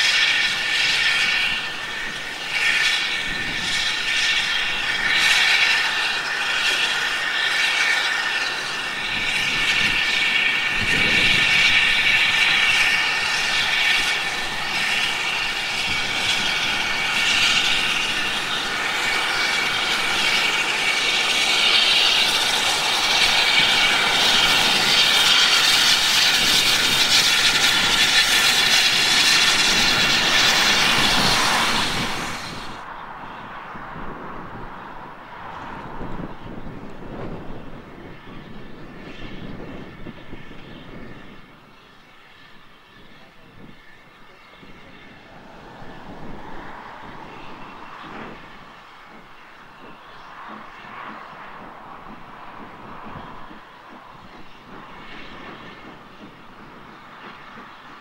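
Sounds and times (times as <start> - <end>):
steam train passing: 0.0 - 58.0.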